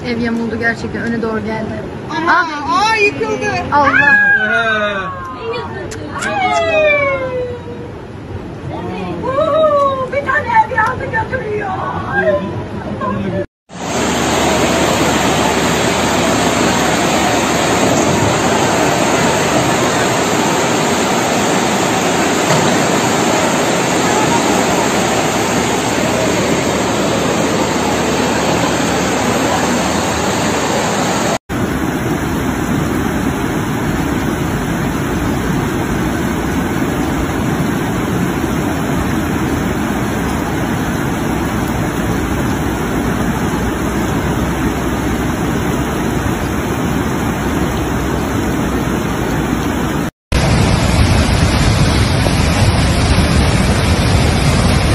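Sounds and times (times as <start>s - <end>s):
floodwater rushing down a street: 6.4s - 12.4s, 13.7s - 54.9s
swollen river rushing: 10.2s - 54.9s.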